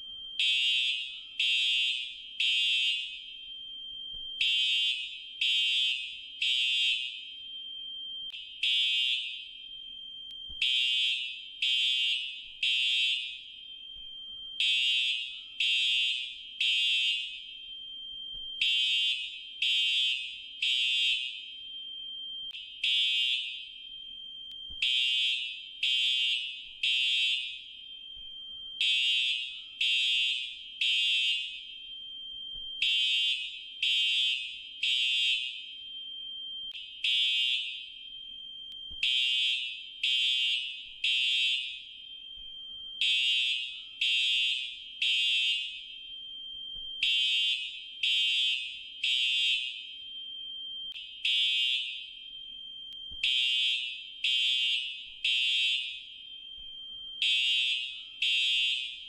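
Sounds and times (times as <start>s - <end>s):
fire alarm high-pitched beeps: 0.0s - 59.0s.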